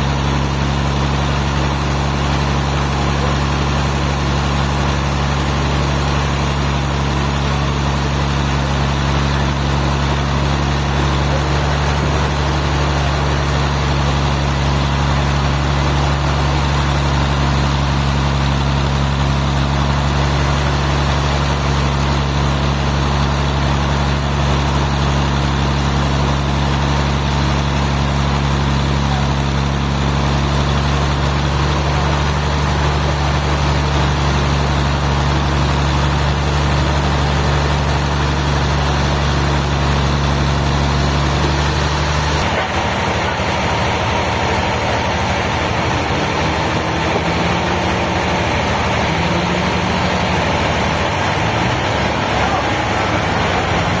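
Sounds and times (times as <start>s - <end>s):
large engine humming: 0.0s - 54.0s.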